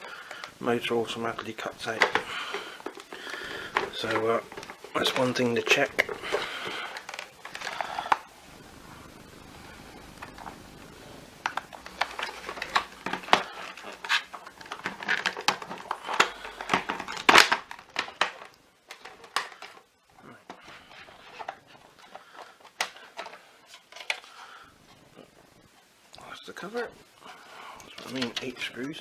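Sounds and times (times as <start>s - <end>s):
plastic parts clicking and clattering: 0.0s - 24.5s, 27.7s - 29.0s.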